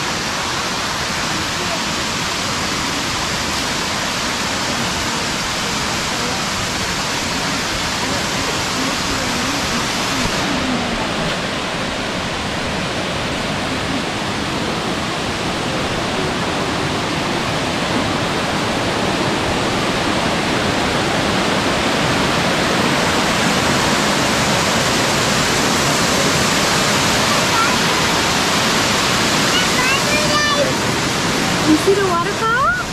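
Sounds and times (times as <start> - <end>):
waterfall rushing over rocks: 0.0 - 32.9.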